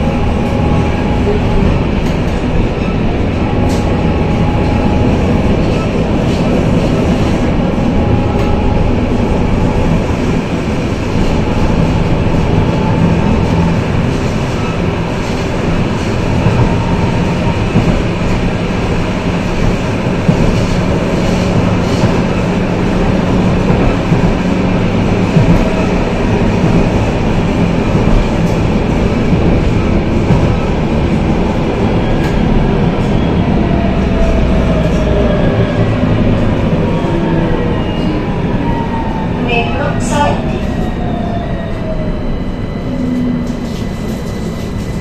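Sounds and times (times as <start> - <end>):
tram wheels rumbling on rail: 0.0 - 45.0.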